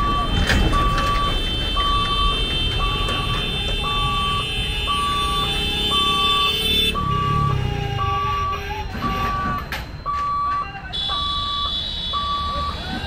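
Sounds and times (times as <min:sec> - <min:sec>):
level crossing warning beeps: 0:00.0 - 0:13.0
motorbikes and traffic rumbling: 0:00.0 - 0:13.0.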